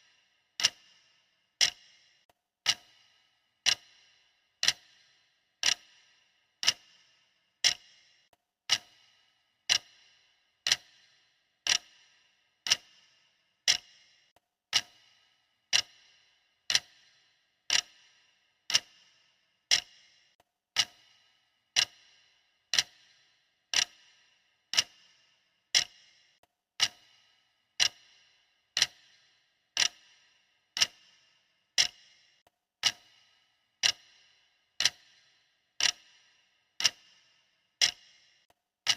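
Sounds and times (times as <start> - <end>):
stopwatch ticking: 0.0 - 38.9.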